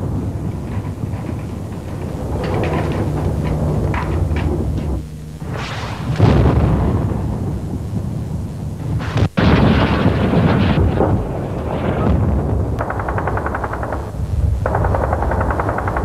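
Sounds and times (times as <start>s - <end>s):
rumbling explosions: 0.0s - 16.0s.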